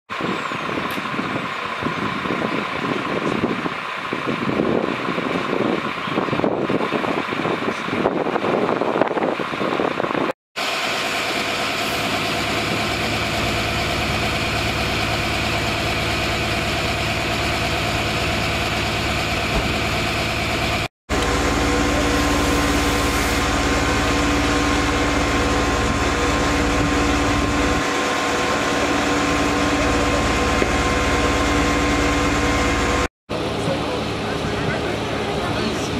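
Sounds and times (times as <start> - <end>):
diesel engine running: 0.1 - 35.9.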